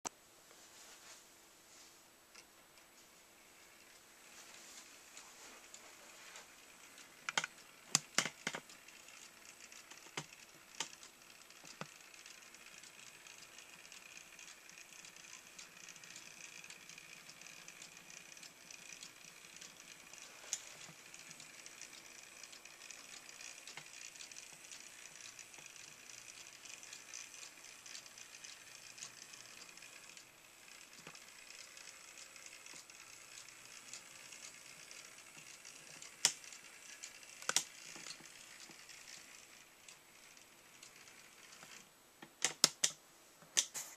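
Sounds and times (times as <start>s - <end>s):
model train motor whine: 3.4s - 41.9s
sharp clicks: 6.4s - 43.0s.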